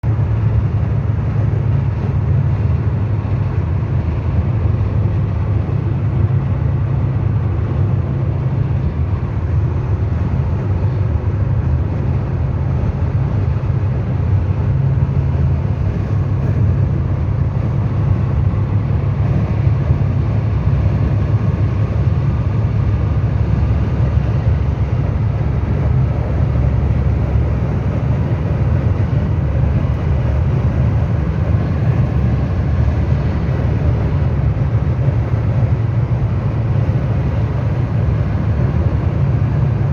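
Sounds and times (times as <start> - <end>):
rushing air rumble: 0.0 - 39.9.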